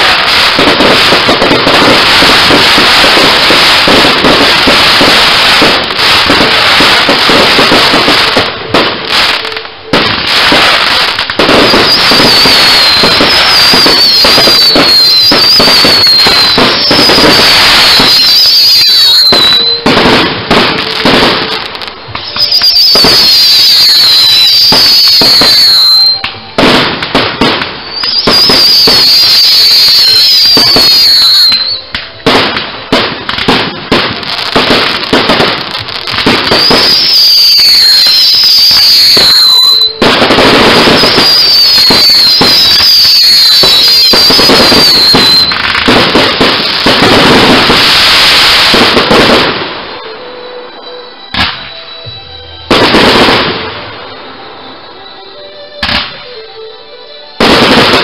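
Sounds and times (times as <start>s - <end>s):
fireworks bangs and crackle: 0.0s - 50.2s, 51.2s - 55.0s, 55.7s - 56.2s, 57.4s - 58.0s
shrill falling firework whistles: 9.2s - 56.5s.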